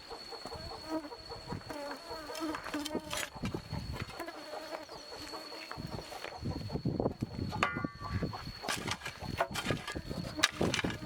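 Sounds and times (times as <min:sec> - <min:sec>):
chickens clucking: 0:00.0 - 0:11.0
insect drone: 0:00.0 - 0:11.0.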